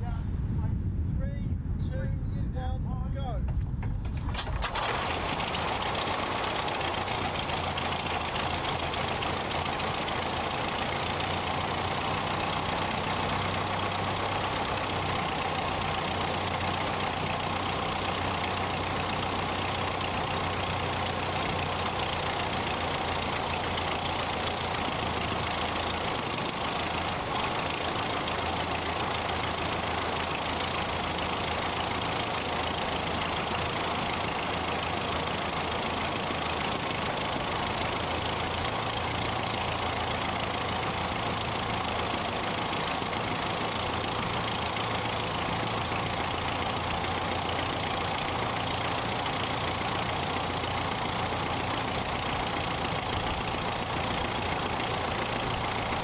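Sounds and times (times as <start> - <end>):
aircraft engine idling: 2.5 - 56.0.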